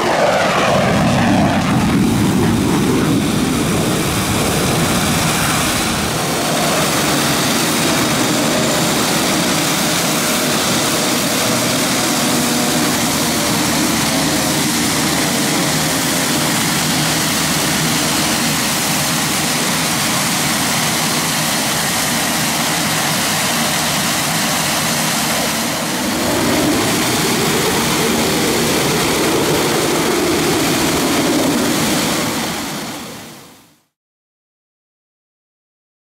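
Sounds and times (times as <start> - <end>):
turboprop aircraft running: 0.0 - 34.0.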